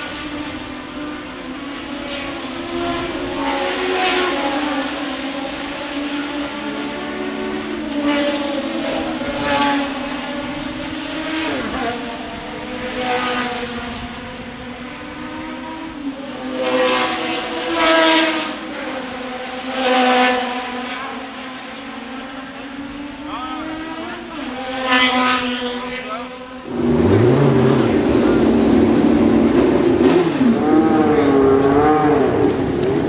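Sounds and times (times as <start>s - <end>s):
race cars passing flat out: 0.0s - 33.0s.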